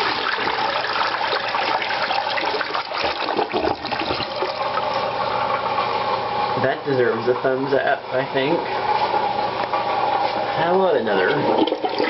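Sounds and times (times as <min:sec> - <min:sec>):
toilet flushing: 0:00.0 - 0:12.0.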